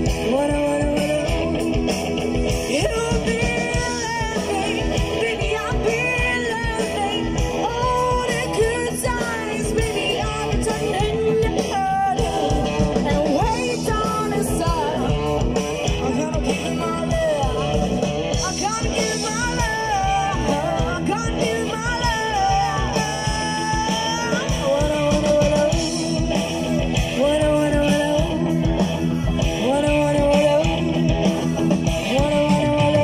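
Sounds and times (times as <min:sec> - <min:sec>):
bass guitar: 0:00.0 - 0:33.0
drums: 0:00.0 - 0:33.0
electric guitar: 0:00.0 - 0:33.0
woman singing: 0:00.0 - 0:33.0.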